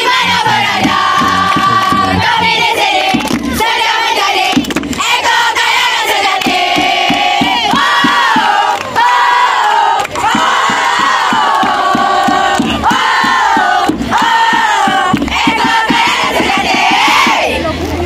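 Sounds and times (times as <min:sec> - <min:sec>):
steady beat: 0:00.0 - 0:04.9, 0:06.0 - 0:08.7, 0:10.2 - 0:17.5
crowd chanting a cheer: 0:00.0 - 0:17.7.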